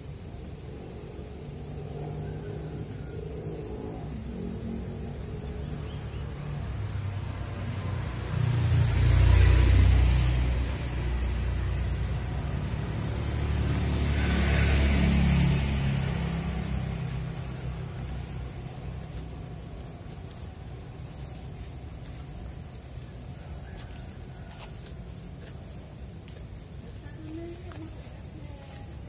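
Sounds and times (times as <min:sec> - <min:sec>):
road vehicles passing: 0:00.0 - 0:29.0.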